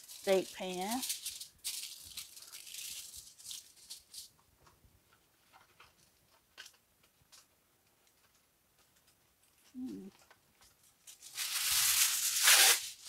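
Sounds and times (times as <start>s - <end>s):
aluminum foil crinkling: 0.0s - 13.0s.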